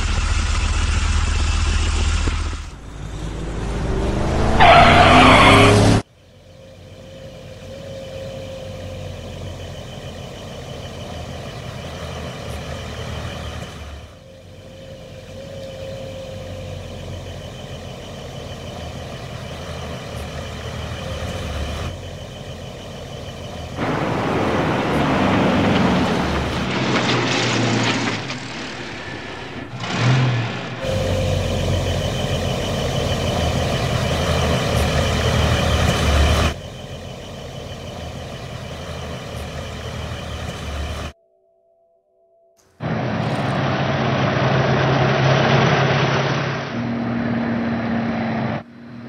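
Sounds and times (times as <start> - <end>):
truck engine running: 0.0 - 41.2, 42.7 - 49.0.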